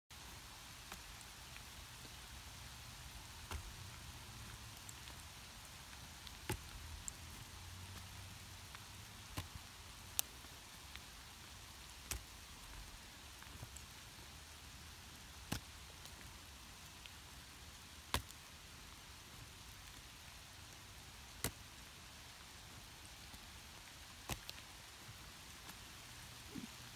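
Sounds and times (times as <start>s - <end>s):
hail hissing on grass: 0.1s - 26.9s.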